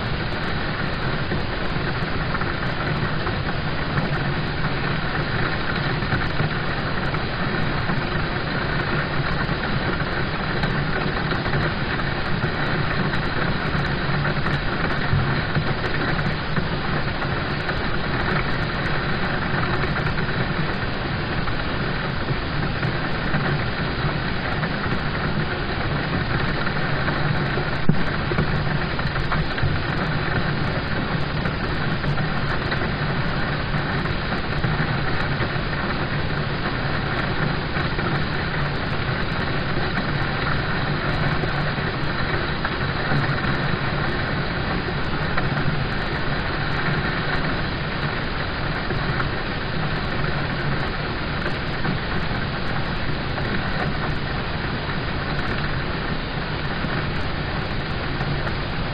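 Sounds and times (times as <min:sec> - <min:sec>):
rain drumming on car roof: 0:00.0 - 0:58.9.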